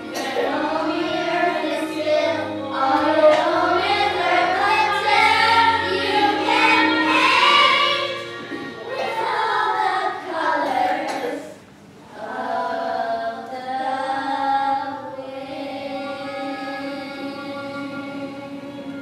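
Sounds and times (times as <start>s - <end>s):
music with voices singing: 0.0s - 19.0s.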